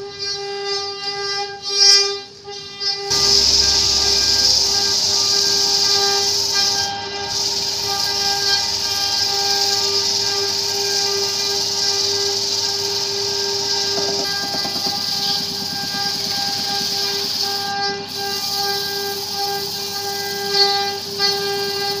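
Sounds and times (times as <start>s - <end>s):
wood lathe whine: 3.0s - 22.0s
chisel cutting spinning wood: 3.1s - 22.0s.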